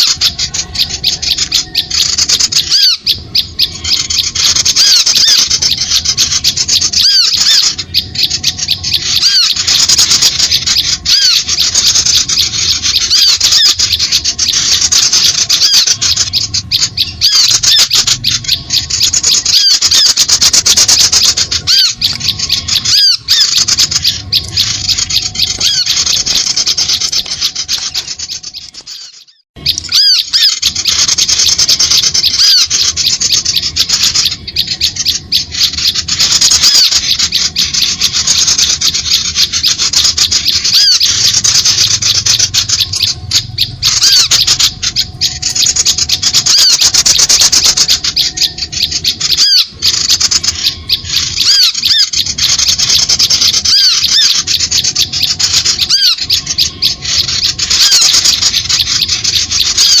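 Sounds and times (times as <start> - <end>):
small birds chattering and chirping: 0.0 - 60.0.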